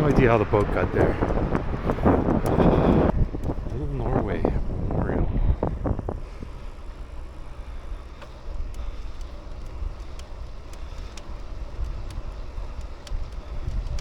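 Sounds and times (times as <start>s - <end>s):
light ticking: 0.0s - 4.8s, 5.6s - 14.0s
tyre and road noise: 0.0s - 14.0s
wind rumble on microphone: 0.0s - 14.0s.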